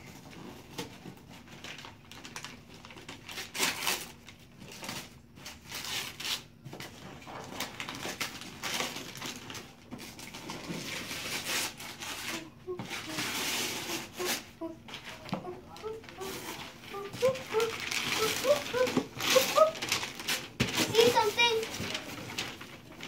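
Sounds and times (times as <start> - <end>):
wrapping paper tearing: 1.4 - 23.0.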